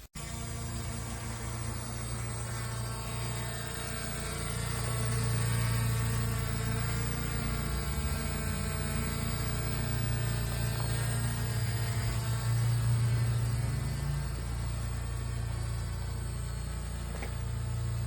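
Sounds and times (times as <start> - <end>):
drone motors buzzing: 0.2 - 18.0.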